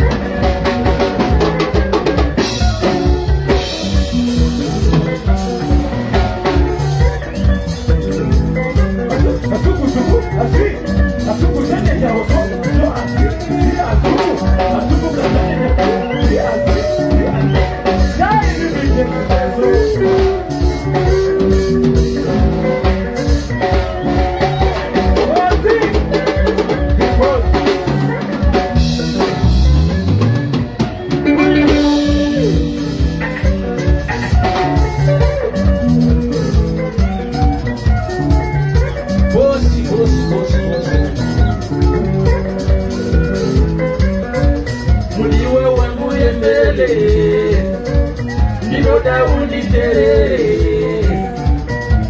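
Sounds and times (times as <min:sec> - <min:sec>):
bass guitar: 0:00.0 - 0:52.0
drum kit beat: 0:00.0 - 0:52.0
electric guitars: 0:00.0 - 0:52.0.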